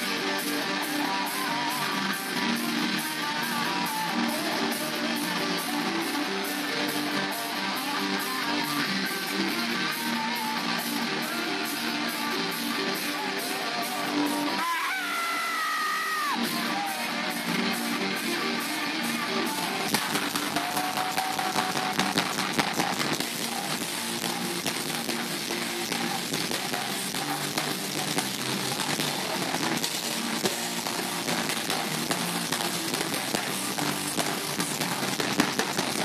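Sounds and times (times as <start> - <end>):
heavy metal band playing live: 0.0 - 36.0.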